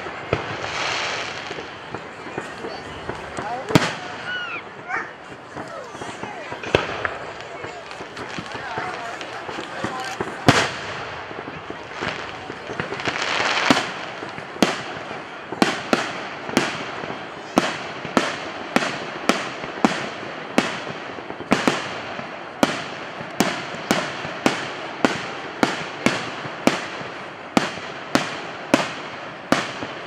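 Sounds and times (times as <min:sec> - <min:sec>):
fireworks banging with echo: 0:00.0 - 0:30.0.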